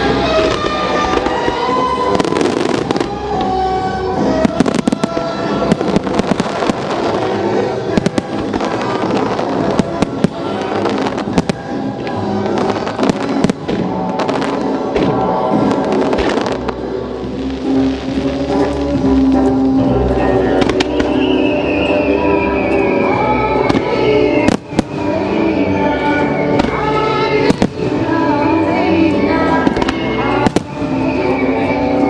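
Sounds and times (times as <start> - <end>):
fireworks bursting: 0.0 - 32.0
music playing: 0.0 - 32.0.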